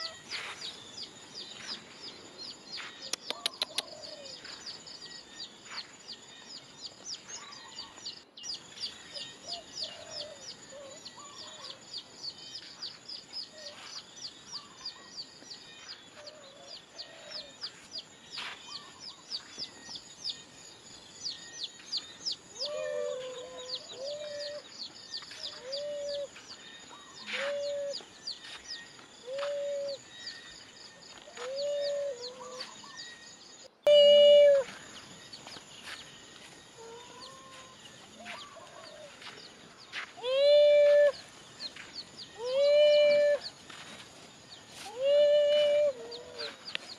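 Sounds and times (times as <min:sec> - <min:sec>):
chickens chirping: 0:06.5 - 0:33.2, 0:34.6 - 0:46.9.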